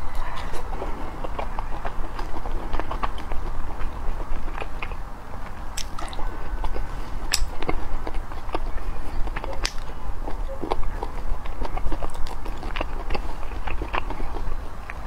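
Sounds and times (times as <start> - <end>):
close chewing mouth sounds: 0.0 - 15.0.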